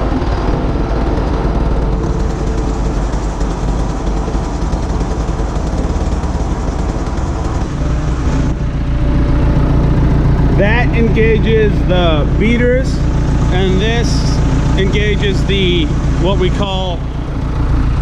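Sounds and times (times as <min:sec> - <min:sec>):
farm machinery engine running: 0:00.0 - 0:18.0.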